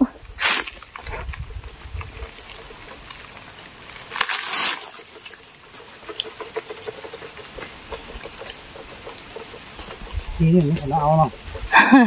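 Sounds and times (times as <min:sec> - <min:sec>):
leaves and twigs rustling: 0:00.0 - 0:12.0
steady high hiss: 0:00.0 - 0:12.0
small ticks: 0:00.6 - 0:11.7.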